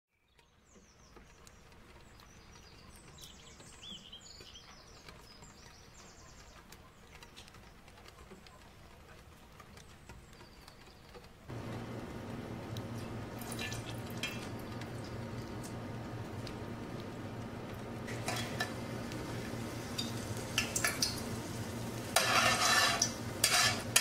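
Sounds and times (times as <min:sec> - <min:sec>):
birds chirping and trilling: 0:00.2 - 0:08.7, 0:09.7 - 0:24.0.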